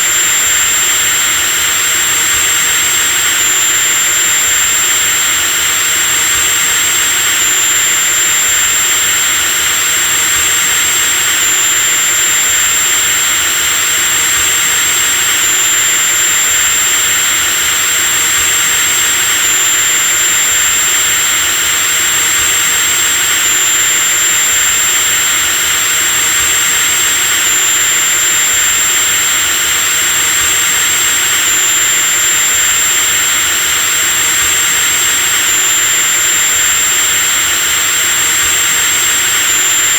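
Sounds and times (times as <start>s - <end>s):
electric drill motor whining: 0.0s - 39.9s.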